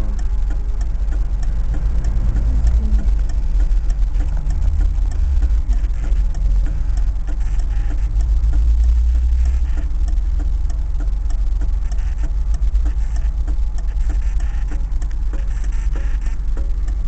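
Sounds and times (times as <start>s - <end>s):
car engine idling: 0.0s - 17.0s
faint regular tick: 0.0s - 17.0s.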